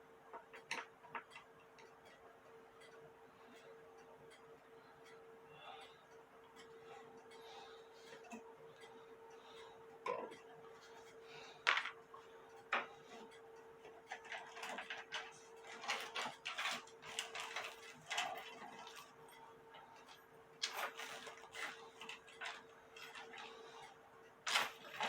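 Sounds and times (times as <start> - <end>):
faint steady hum: 0.0 - 25.0
tools clicking and tapping on clock: 0.3 - 25.0.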